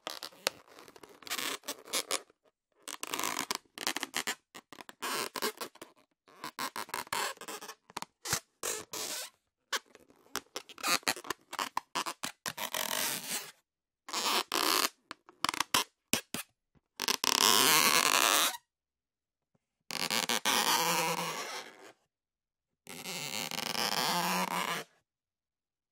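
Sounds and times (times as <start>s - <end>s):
rubber balloon squeaking: 0.0s - 2.3s, 2.9s - 13.5s, 14.1s - 18.6s, 19.9s - 21.8s, 23.0s - 24.9s.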